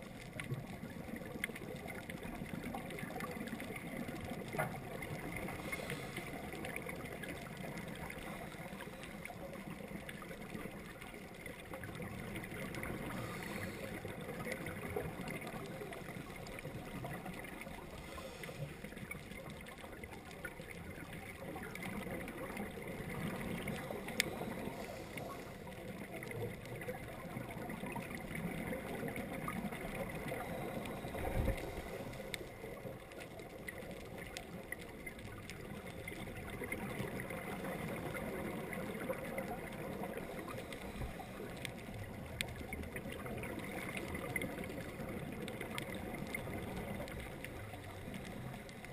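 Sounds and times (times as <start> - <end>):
faint scattered clicks: 0.0 - 48.9
muffled underwater rush: 0.0 - 48.9.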